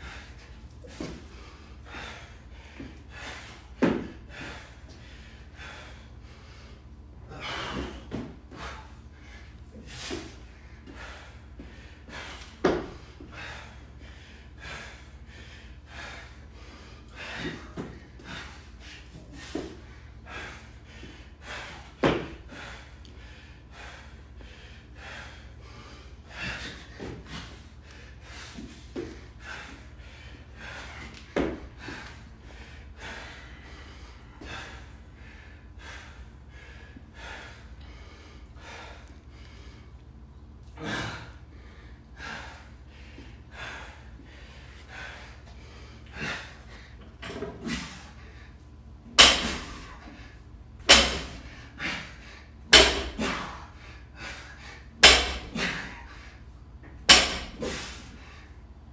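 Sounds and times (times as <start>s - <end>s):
person panting heavily: 0.0s - 58.9s.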